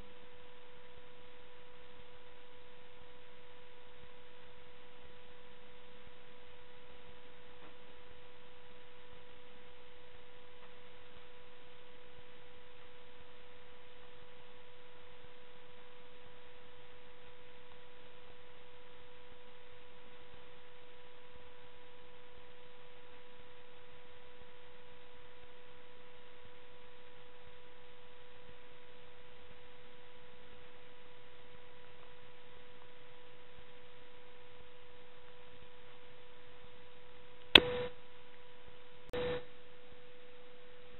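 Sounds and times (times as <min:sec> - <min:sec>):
constant hiss: 0:00.0 - 0:40.9.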